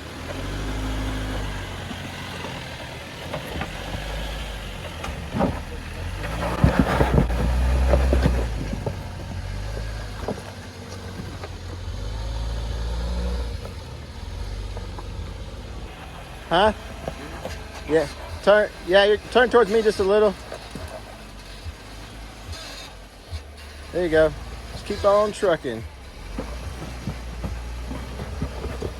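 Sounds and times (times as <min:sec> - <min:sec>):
off-road engine crawling: 0:00.0 - 0:28.9.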